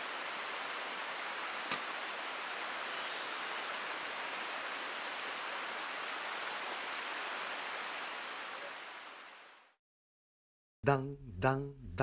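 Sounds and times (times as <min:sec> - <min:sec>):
rain hissing on tarp: 0:00.0 - 0:09.8.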